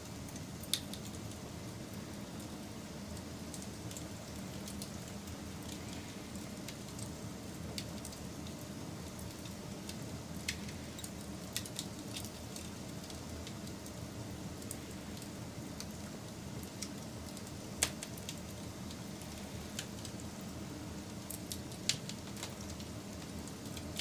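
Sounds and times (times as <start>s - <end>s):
fire crackles and pops: 0.0s - 24.0s
wood fire burning: 0.0s - 24.0s.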